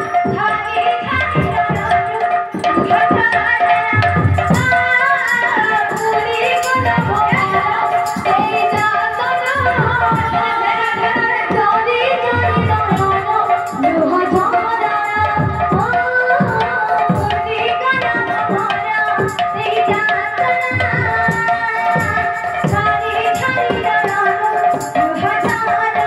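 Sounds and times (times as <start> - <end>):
barrel drum beating: 0.0 - 26.0
woman singing: 0.0 - 26.0.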